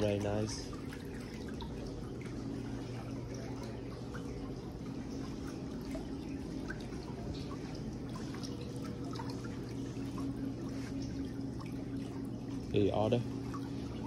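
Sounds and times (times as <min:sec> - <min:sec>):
steady low hum: 0:00.0 - 0:14.0
water trickling and dripping: 0:00.0 - 0:14.0.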